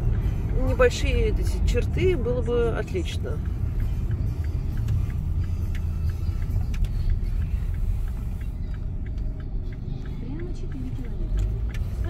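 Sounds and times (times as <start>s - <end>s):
car driving on wet road: 0.0s - 12.0s
light regular ticking: 0.0s - 12.0s.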